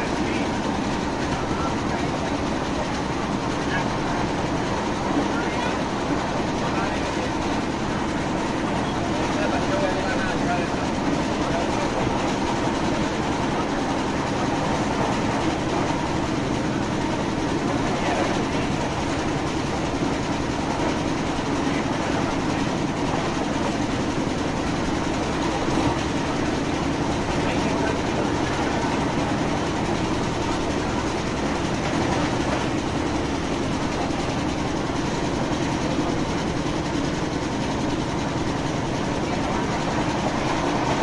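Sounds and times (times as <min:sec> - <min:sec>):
rumble of train wheels on rails: 0:00.0 - 0:41.0.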